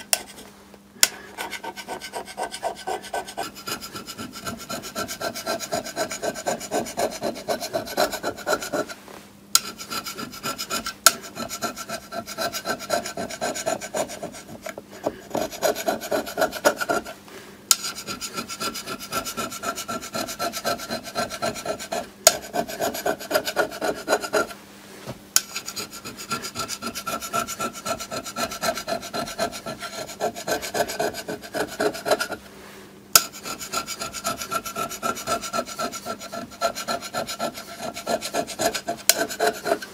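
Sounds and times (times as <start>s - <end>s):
hand scraper rasping on metal: 1.4s - 9.0s, 9.6s - 24.6s, 25.4s - 32.4s, 33.2s - 39.9s.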